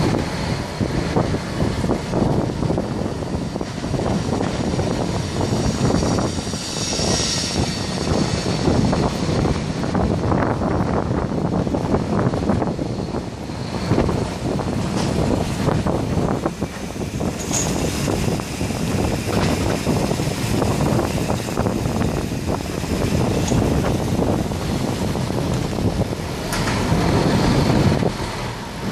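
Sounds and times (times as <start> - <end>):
road and vehicle noise: 0.0 - 28.9
wind rushing over microphone: 0.0 - 28.9.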